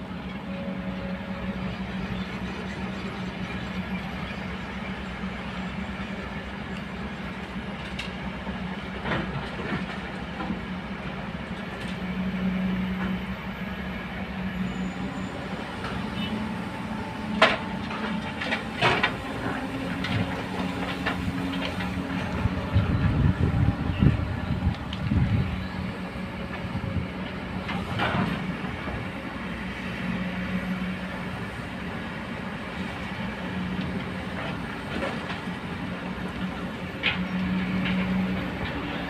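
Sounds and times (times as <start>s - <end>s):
excavator diesel engines running: 0.0s - 39.0s.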